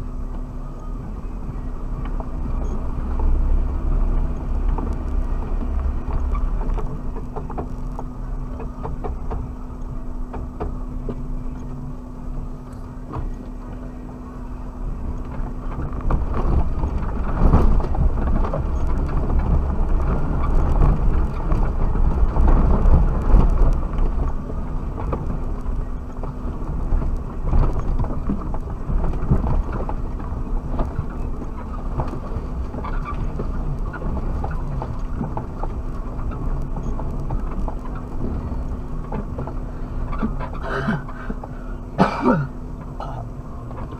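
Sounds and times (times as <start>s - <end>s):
car engine hum: 0.0s - 43.9s
rumbling with knocks and rattles: 0.0s - 43.9s.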